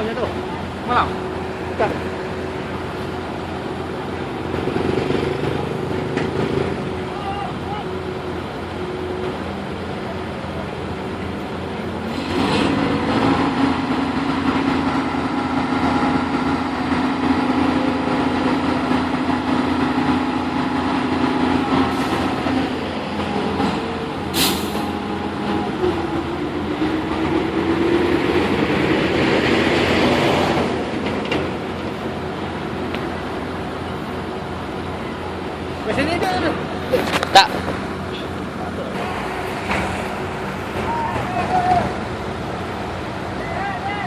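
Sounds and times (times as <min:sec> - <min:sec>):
heavy machine engine revving: 0:00.0 - 0:43.4.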